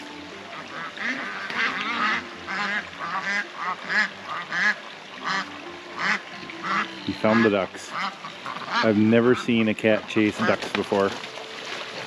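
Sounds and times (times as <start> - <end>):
ducks quacking: 0.5 - 11.2.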